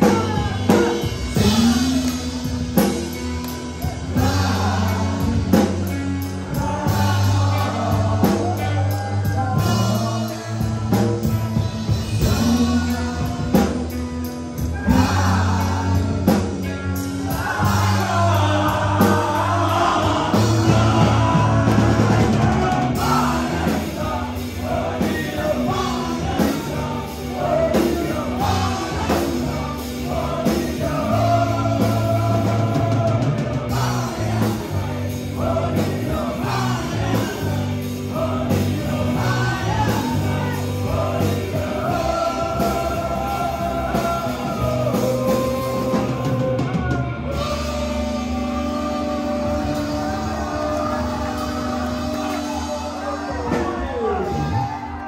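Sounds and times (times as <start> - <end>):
man singing: 0.0 - 3.2, 3.8 - 55.0
bass guitar: 0.0 - 55.0
drum kit: 0.0 - 55.0
electric guitars: 0.0 - 55.0.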